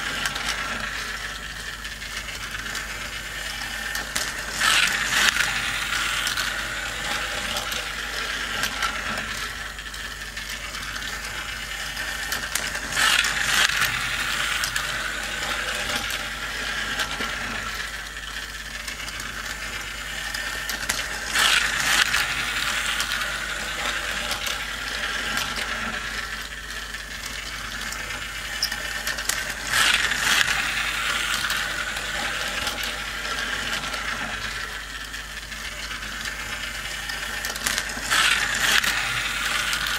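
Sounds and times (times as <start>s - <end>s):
toy car clattering past: 0.0s - 39.9s
toy race track whirring and clicking: 0.0s - 39.9s.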